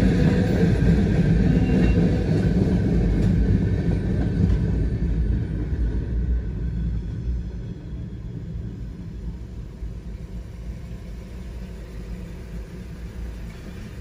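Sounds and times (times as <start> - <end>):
freight train passing: 0.0 - 14.0.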